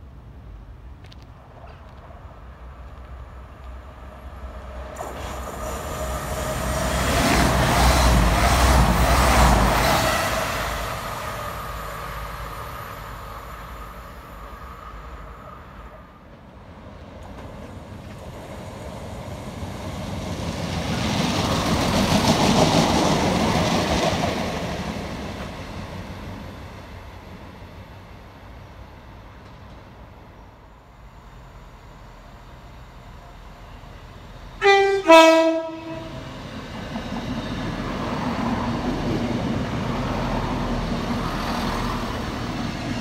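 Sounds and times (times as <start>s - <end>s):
diesel train passing: 0.0s - 43.0s.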